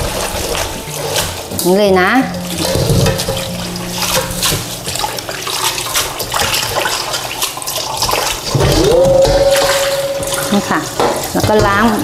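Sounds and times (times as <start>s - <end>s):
water pouring into sink: 0.0s - 12.0s
water splashing: 0.0s - 12.0s.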